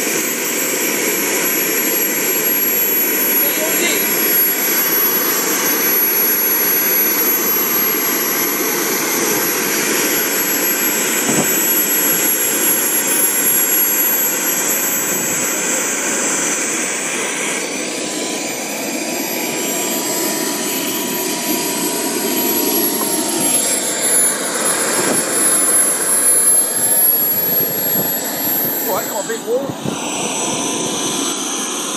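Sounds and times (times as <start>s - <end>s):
high-pitched turbine whine: 0.0s - 31.9s
turbine jet rushing: 0.0s - 31.9s.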